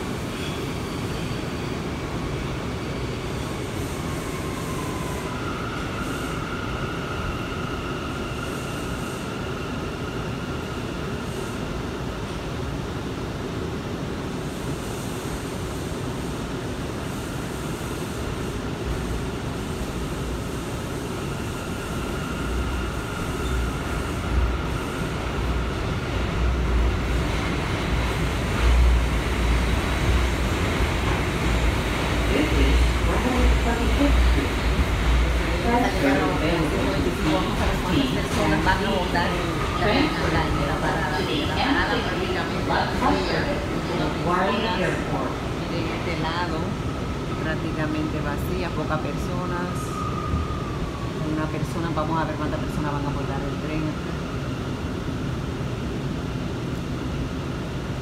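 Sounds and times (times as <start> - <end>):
subway train rumble: 0.0 - 58.0.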